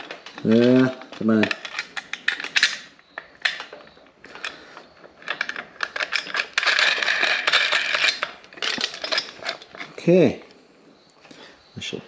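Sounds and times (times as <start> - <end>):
scraping rattle: 0.0 - 10.5.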